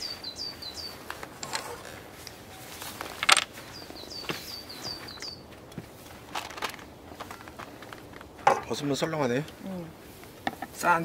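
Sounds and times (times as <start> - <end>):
quiet outdoor ambience: 0.0 - 11.0.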